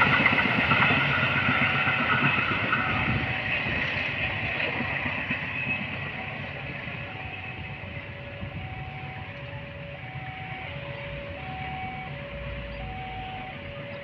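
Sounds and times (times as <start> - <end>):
distant train rumbling: 0.0 - 14.0.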